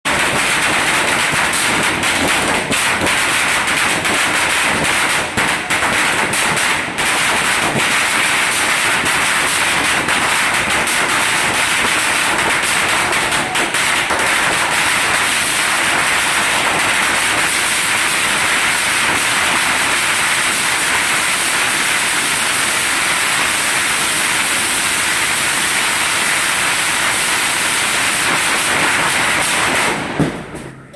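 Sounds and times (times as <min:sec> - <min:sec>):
firecrackers crackling: 0:00.0 - 0:30.9.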